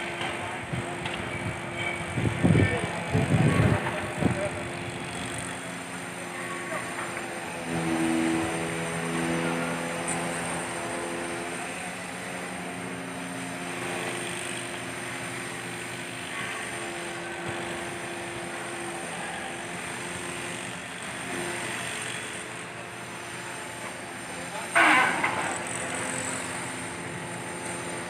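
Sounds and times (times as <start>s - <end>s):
crane engine humming: 0.0s - 28.0s.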